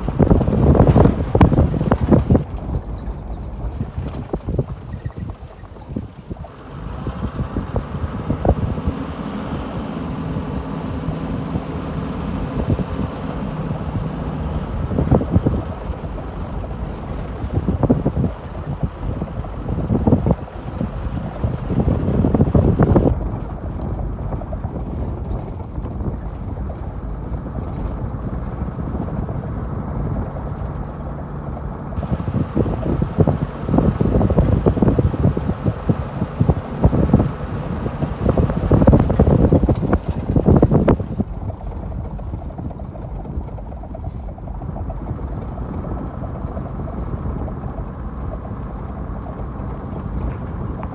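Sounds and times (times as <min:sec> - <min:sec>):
vehicle engine and tyres rumbling: 0:00.0 - 0:50.9
wind on microphone: 0:00.0 - 0:50.9.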